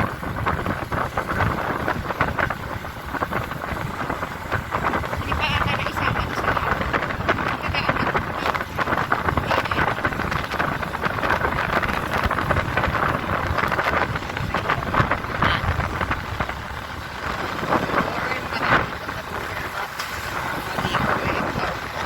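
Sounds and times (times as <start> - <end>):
motorcycle engine: 0.0 - 22.0
road noise: 0.0 - 22.0
wind buffeting microphone: 0.0 - 22.0.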